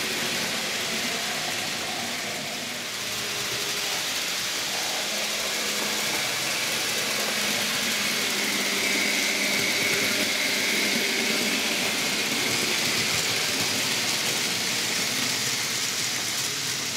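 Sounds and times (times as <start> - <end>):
faint motor whine: 0.0 - 16.9
model train wheels rattling on track: 0.0 - 16.9.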